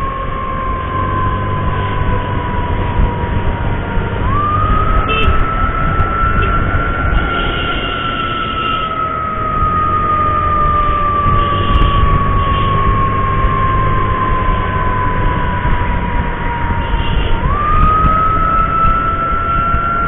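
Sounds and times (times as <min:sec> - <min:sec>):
ambulance siren: 0:00.0 - 0:20.0
motorcycle engine: 0:00.0 - 0:20.0
wind rumble: 0:00.0 - 0:20.0.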